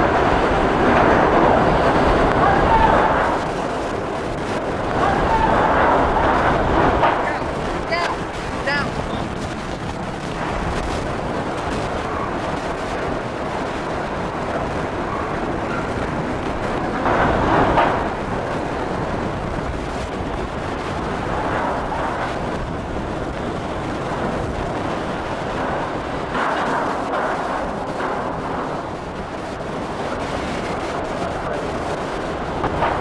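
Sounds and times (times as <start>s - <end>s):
driving rain: 0.0s - 33.0s
strong wind buffeting microphone: 0.0s - 33.0s.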